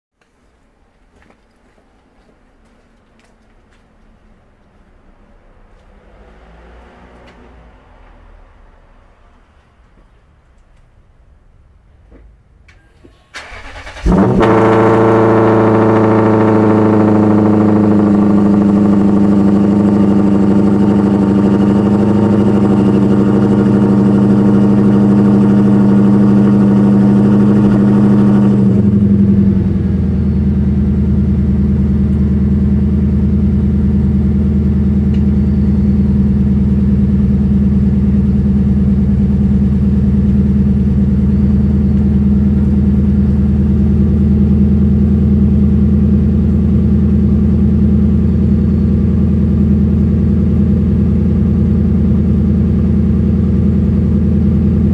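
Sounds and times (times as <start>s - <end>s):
car engine idling: 0.6s - 54.9s.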